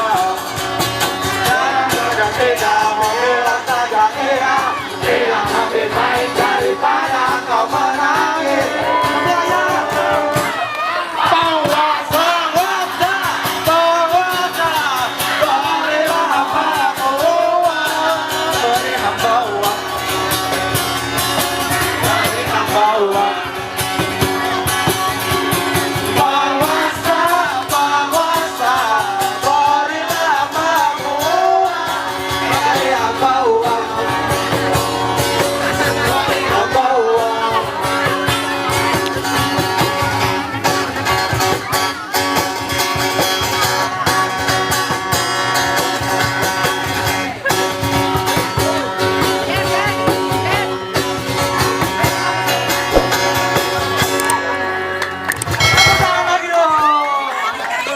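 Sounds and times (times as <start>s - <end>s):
guitar band music: 0.0s - 56.6s.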